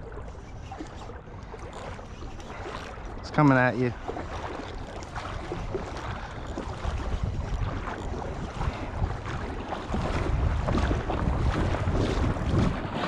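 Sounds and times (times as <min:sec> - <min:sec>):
water lapping: 0:00.0 - 0:13.0
wind buffeting microphone: 0:00.0 - 0:13.0.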